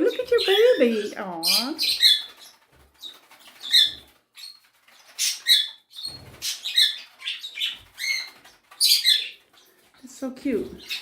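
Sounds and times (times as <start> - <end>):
cockatiels chirping: 0.0 - 9.9, 10.5 - 11.0.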